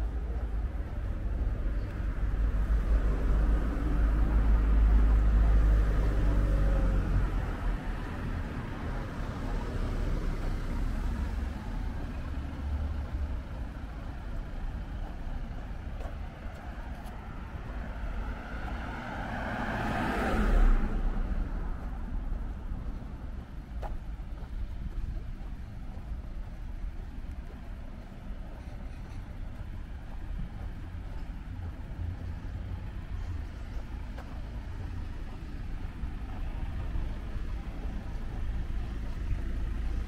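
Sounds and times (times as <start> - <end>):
car passing: 0.0 - 13.6, 14.8 - 40.0
vehicle engine rumbling: 0.0 - 40.0.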